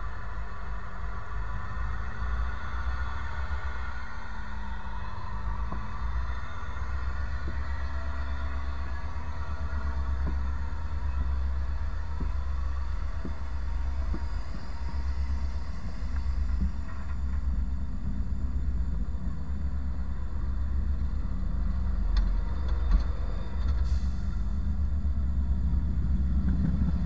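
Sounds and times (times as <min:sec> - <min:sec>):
railcars rumbling over rails: 0:00.0 - 0:27.0.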